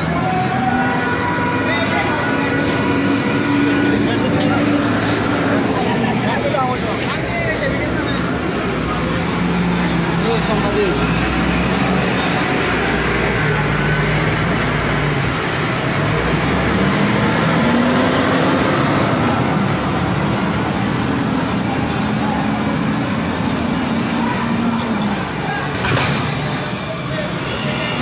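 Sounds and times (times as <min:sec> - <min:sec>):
heavy truck engines running: 0:00.0 - 0:28.0.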